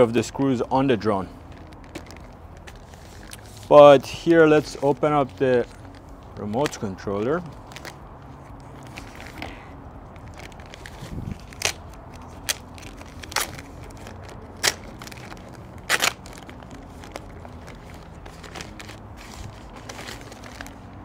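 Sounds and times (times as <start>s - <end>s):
plastic bag crinkling: 1.2s - 21.0s.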